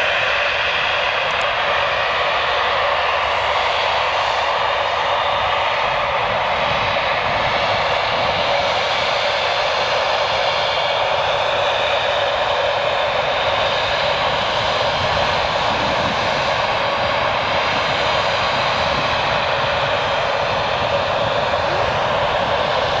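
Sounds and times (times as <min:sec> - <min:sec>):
jet engines running at low power: 0:00.0 - 0:23.0.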